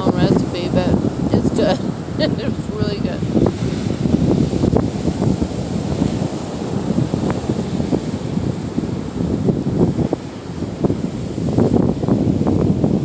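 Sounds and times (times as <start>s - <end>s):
surf washing on shore: 0.0s - 13.0s
wind buffeting microphone: 0.0s - 13.0s.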